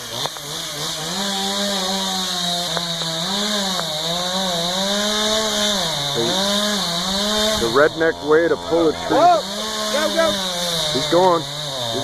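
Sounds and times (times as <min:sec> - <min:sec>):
chainsaw cutting tree trunk: 0:00.0 - 0:12.0.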